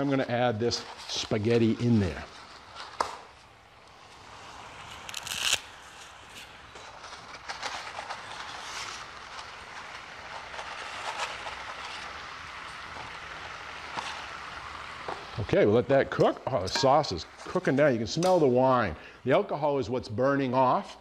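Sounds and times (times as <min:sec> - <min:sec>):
water boiling and bubbling: 0:00.0 - 0:19.3.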